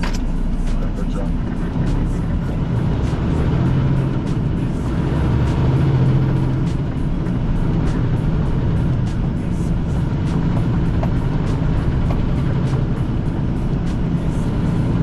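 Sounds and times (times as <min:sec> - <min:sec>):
diesel truck engine drone: 0:00.0 - 0:15.0
road noise: 0:00.0 - 0:15.0.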